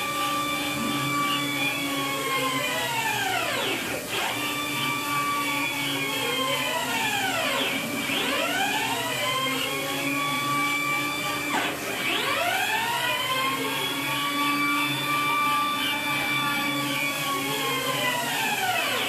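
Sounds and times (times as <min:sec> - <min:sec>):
stepper motors whining: 0:00.0 - 0:19.0.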